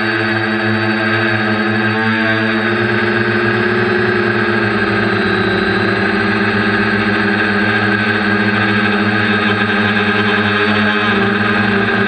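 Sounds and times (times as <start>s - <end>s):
quadcopter motors buzzing: 0.0s - 12.0s.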